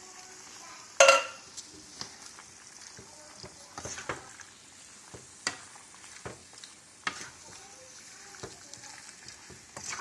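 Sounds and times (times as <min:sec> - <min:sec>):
curry sizzling: 0:00.0 - 0:10.0
spoon scraping and tapping pan: 0:01.0 - 0:10.0.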